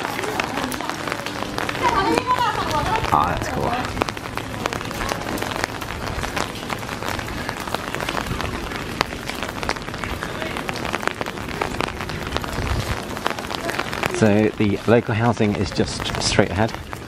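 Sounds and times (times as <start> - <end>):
raindrops ticking sharply: 0.0 - 17.0
steady rain: 0.0 - 17.0.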